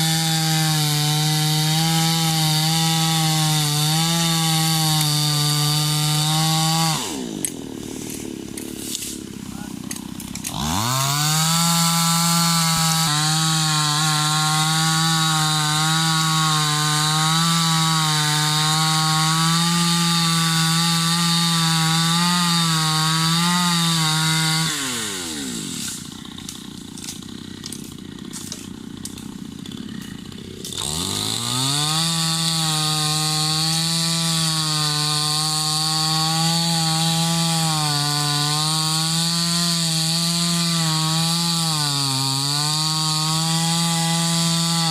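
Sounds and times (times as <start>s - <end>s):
chainsaw cutting wood: 0.0s - 44.9s
chainsaw idling: 0.0s - 44.9s.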